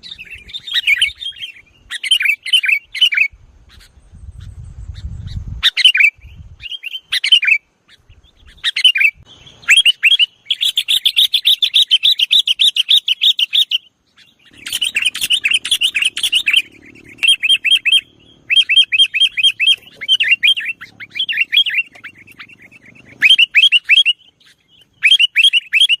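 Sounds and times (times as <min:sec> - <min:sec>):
bulbul calling: 0:00.0 - 0:26.0.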